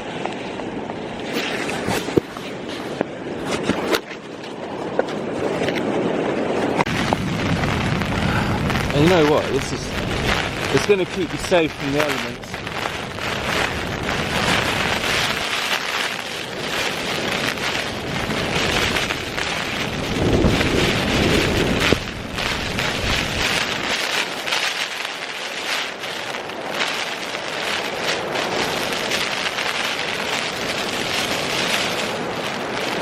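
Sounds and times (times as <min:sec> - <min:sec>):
gusting wind: 0:00.0 - 0:33.0
tent fabric flapping in wind: 0:00.0 - 0:33.0
wind on microphone: 0:00.0 - 0:33.0.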